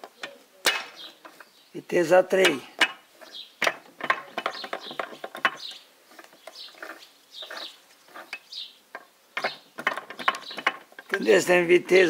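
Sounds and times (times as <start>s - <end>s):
bird chirping: 0.1s - 1.8s, 3.2s - 11.6s.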